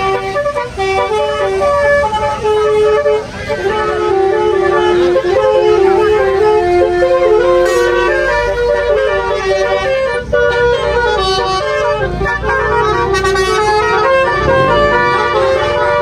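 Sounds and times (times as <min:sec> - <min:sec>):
multi-tone car horn tune: 0:00.0 - 0:16.0.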